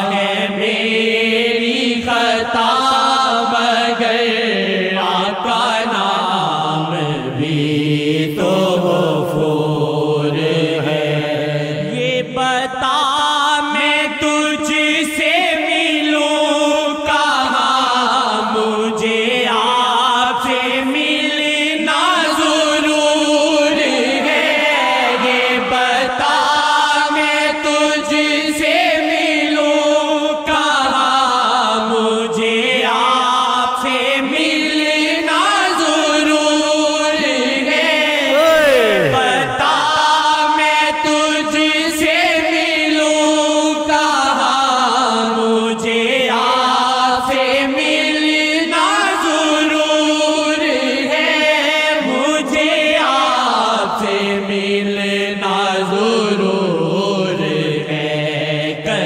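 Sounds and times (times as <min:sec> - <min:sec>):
person chanting a devotional hymn: 0:00.0 - 0:59.0.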